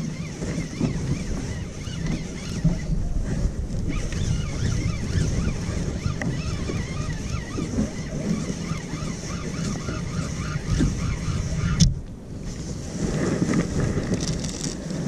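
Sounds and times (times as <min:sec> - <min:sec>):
fishing reel whirring: 0:00.0 - 0:11.9, 0:13.9 - 0:15.0
wind buffeting microphone: 0:00.0 - 0:15.0.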